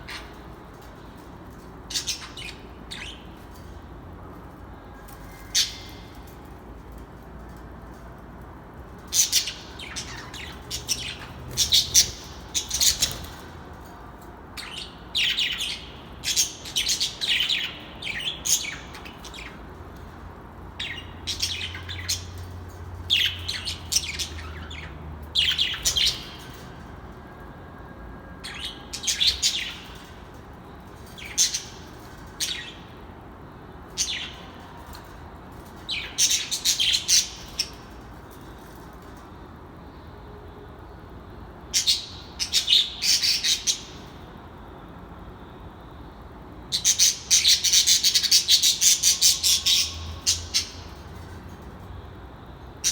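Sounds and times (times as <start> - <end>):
birds chirping: 0.0 - 27.5, 28.3 - 40.2, 46.7 - 52.9.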